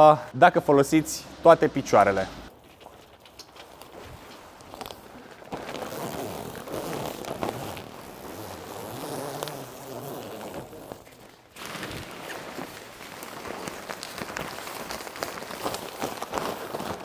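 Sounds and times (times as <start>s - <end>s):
nylon fabric rustling: 2.5s - 17.0s.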